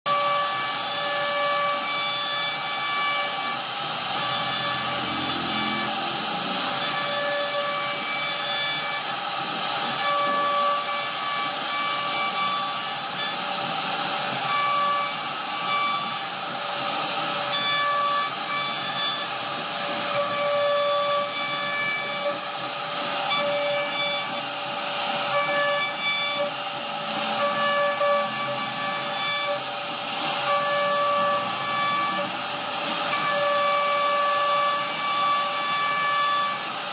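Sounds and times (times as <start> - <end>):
bit cutting through wood: 0.1 - 36.9
router spindle whine: 0.1 - 36.9.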